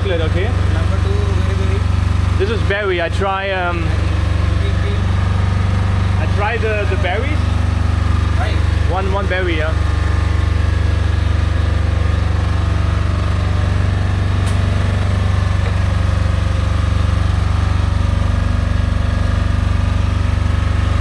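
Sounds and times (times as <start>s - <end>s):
loud pulsing machine drone: 0.0s - 21.0s.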